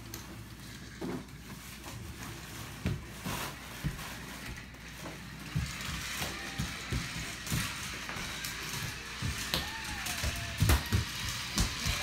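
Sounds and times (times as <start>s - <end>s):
toy vehicle rolling on wooden floor: 0.0s - 12.0s.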